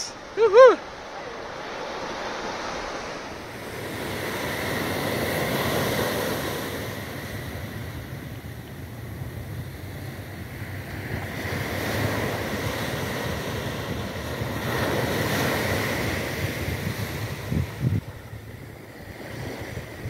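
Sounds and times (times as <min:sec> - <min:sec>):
small waves breaking on beach: 0:00.0 - 0:20.0
wind rumbling on microphone: 0:00.0 - 0:20.0.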